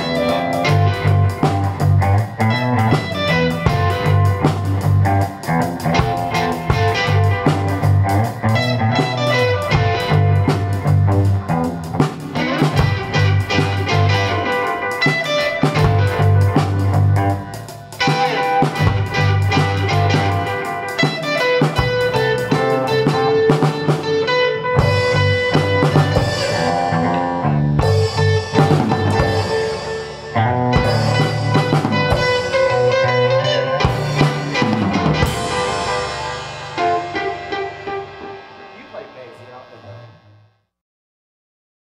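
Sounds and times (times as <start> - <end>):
drum kit beat: 0.0 - 40.1
post-punk band playing: 0.0 - 40.4
bass guitar notes: 0.0 - 40.5
electric guitar: 0.0 - 40.5.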